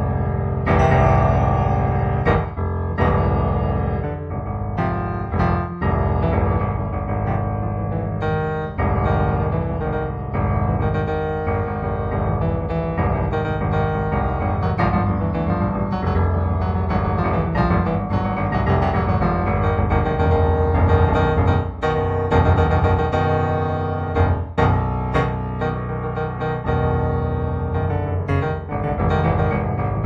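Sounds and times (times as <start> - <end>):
solo piano music: 0.0 - 30.0.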